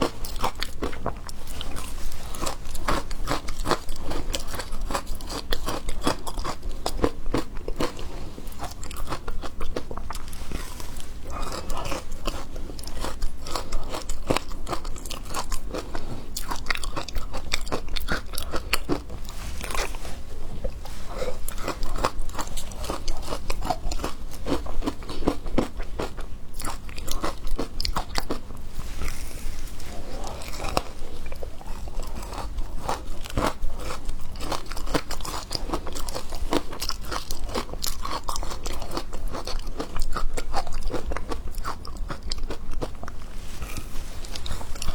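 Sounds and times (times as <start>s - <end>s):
ice crunching while chewed: 0.0s - 44.9s.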